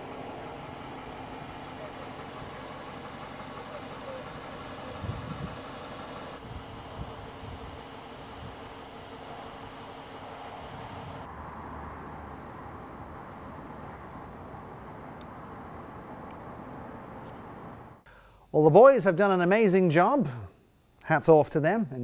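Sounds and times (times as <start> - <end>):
car engine idling: 0.0 - 18.1.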